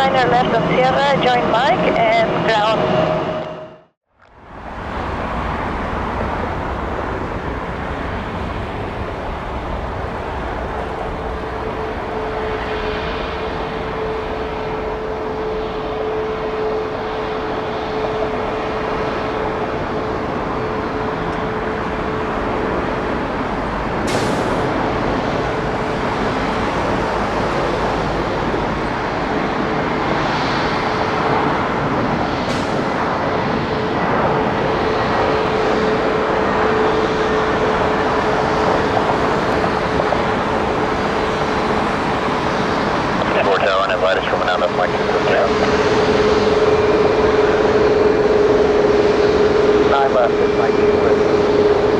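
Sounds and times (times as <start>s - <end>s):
jet engines roaring: 0.0s - 3.8s, 4.5s - 51.9s.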